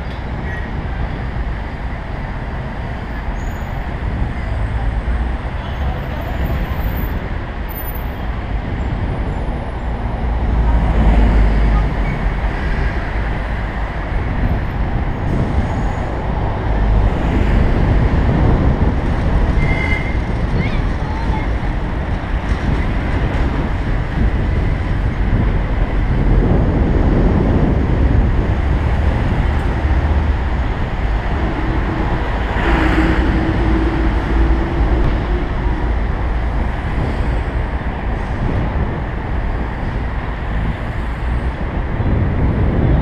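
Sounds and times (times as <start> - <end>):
road noise: 0.0 - 43.0
wind buffeting microphone: 0.0 - 43.0.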